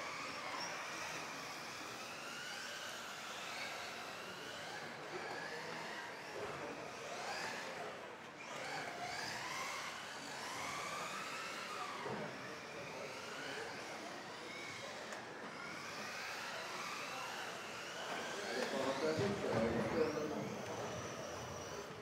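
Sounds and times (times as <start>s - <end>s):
electric rc car motors whining: 0.0s - 22.0s.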